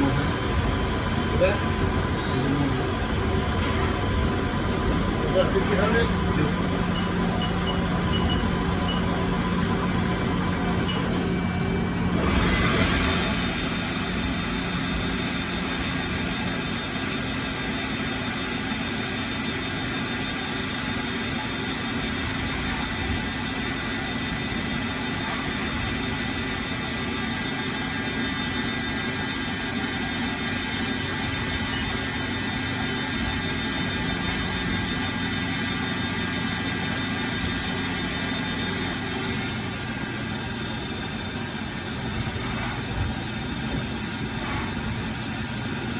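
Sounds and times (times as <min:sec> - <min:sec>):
lathe running with hum and whine: 0:00.0 - 0:45.9.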